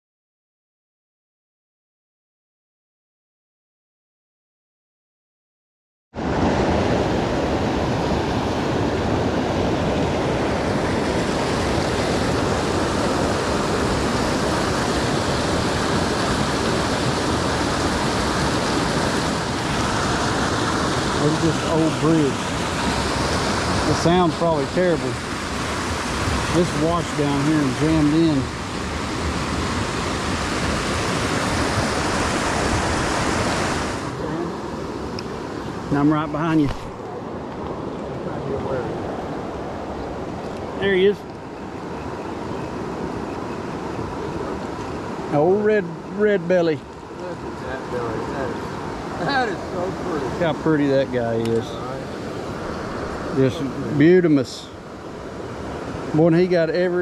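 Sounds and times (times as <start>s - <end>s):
rushing creek rapids: 6.2s - 57.0s.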